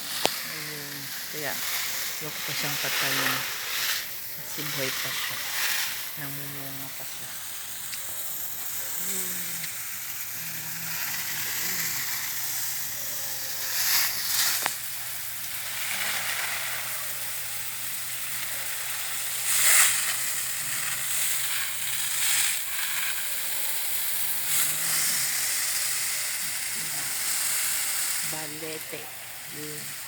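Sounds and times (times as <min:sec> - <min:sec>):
garden hose spraying water: 0:00.0 - 0:30.0.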